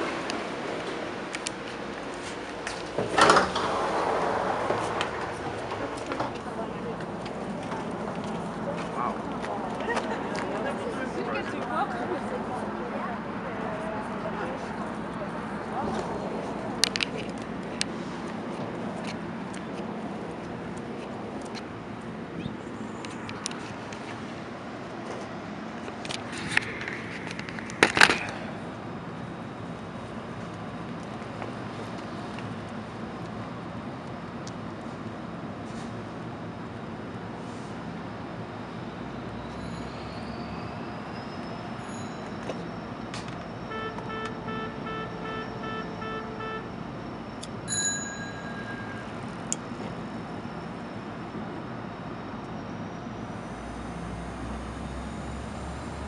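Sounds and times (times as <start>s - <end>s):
diesel locomotive idling: 0.0s - 56.0s
train rumbling at platform: 0.0s - 56.0s.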